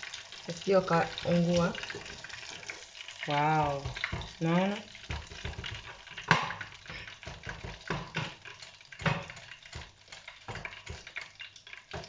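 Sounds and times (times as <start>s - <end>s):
hot oil crackling and popping: 0.0s - 12.0s.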